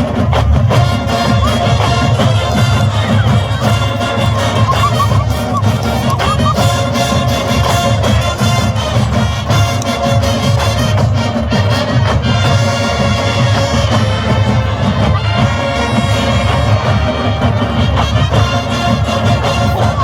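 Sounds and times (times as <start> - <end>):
drum-line beat: 0.0 - 20.0
marching bands playing: 0.0 - 20.0.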